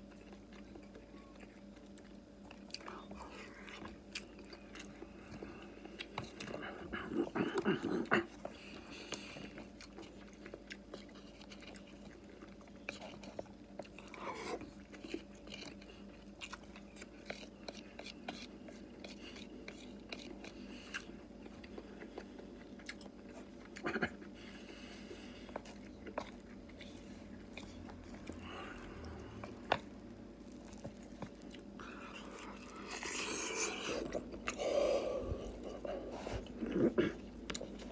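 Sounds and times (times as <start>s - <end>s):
faint steady hum: 0.0s - 37.9s
person chewing: 0.0s - 37.9s.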